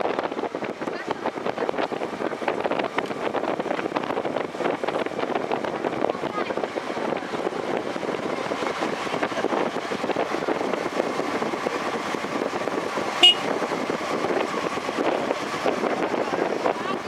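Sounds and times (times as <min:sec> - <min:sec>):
wind and bicycle tyres rushing: 0:00.0 - 0:17.0.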